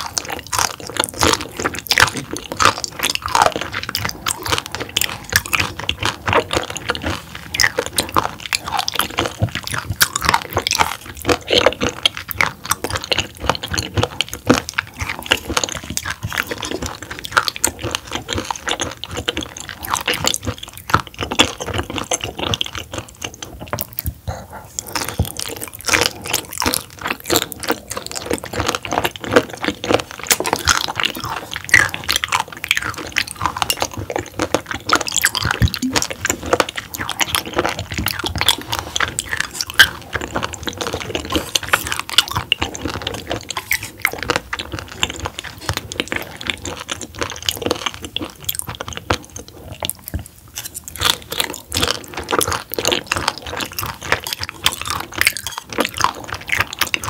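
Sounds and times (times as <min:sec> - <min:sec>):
mouth clicks: 0:00.0 - 0:57.0
wet crunchy chewing: 0:00.0 - 0:57.0.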